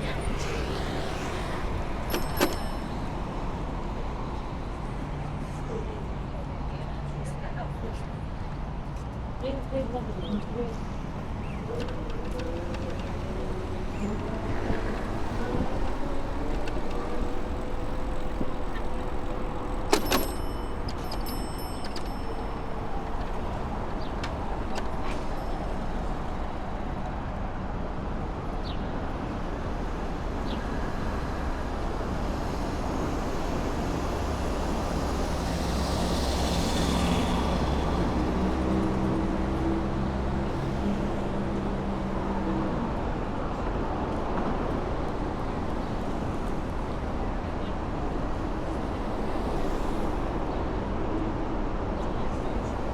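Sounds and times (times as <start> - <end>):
rumble of street traffic: 0.0 - 52.9.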